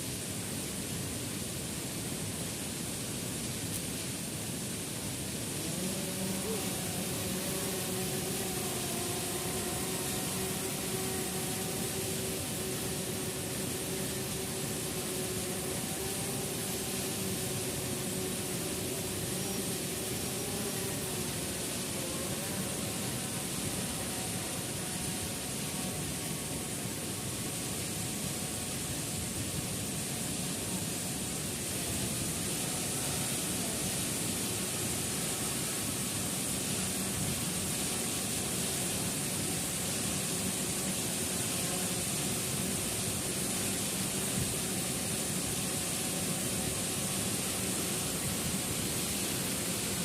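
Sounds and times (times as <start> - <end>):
waterfall rushing: 0.1 - 50.0
drone propellers humming: 4.0 - 50.0.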